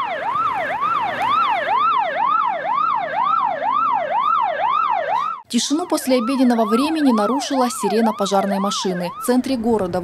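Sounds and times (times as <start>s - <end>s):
fire engine siren yelping: 0.0s - 10.0s.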